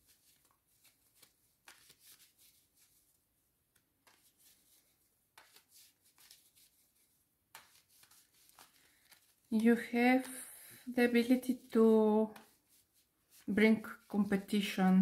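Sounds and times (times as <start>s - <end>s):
cards rustling: 0.0s - 15.0s.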